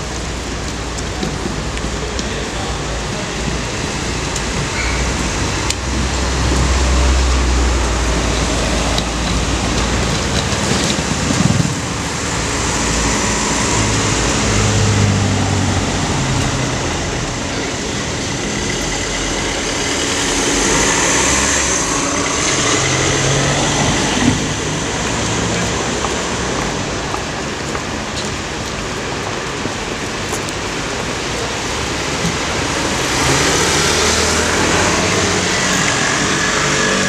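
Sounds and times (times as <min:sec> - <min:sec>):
cars passing: 0:00.0 - 0:37.0
road noise: 0:00.0 - 0:37.0.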